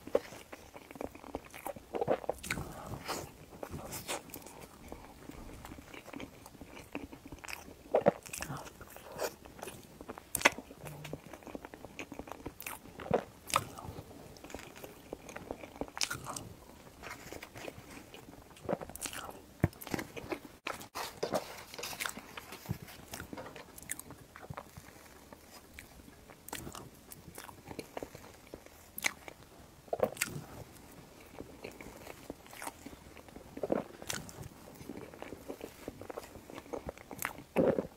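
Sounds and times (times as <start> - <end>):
person chewing: 0.0 - 37.9.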